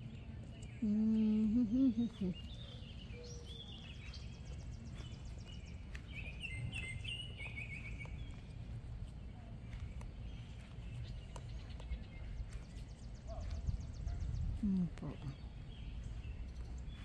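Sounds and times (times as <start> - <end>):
songbirds chirping and singing: 0.0 - 17.0
steady low rumble: 0.0 - 17.0.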